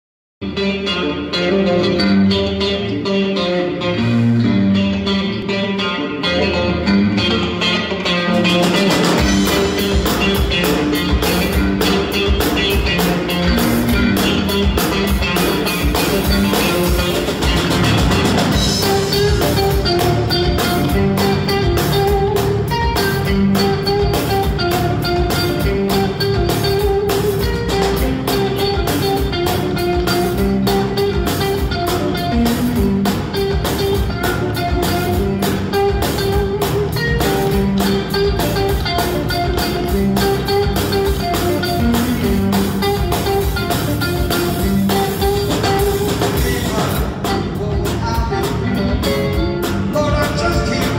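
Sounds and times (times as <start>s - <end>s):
electric guitar riff: 0.4s - 50.9s
drums and bass beat: 6.2s - 50.9s.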